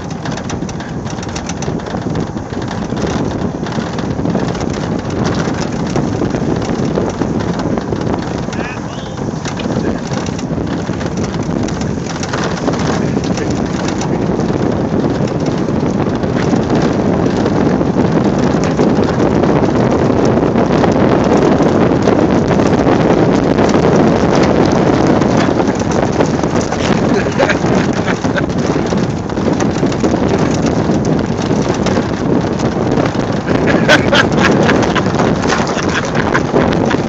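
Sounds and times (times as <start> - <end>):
boat sliding rumble: 0.0 - 37.0
wind buffeting microphone: 0.0 - 37.0.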